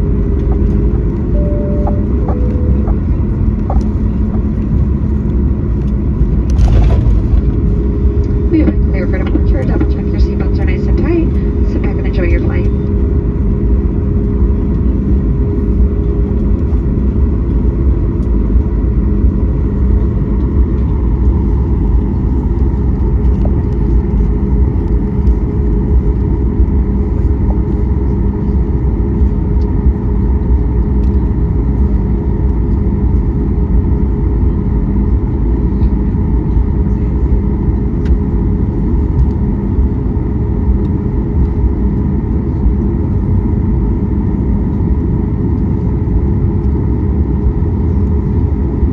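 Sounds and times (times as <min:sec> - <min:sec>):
steady hum: 0:00.0 - 0:31.8, 0:35.1 - 0:48.9
jet engines in aircraft cabin: 0:00.0 - 0:48.9.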